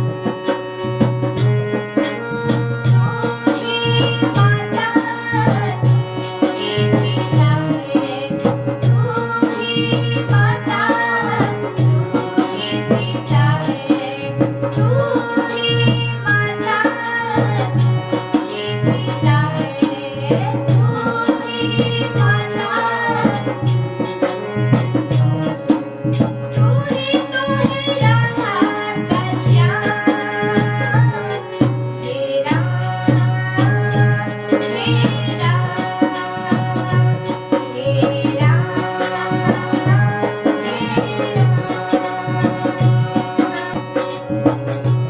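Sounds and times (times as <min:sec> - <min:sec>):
tabla rhythm: 0:00.0 - 0:45.0.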